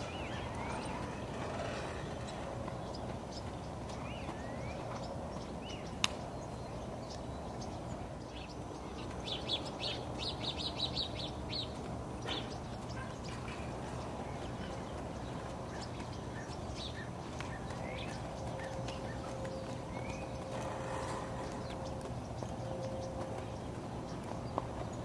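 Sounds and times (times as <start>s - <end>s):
outdoor background hiss: 0.0s - 25.0s
small birds chirping: 0.0s - 25.0s.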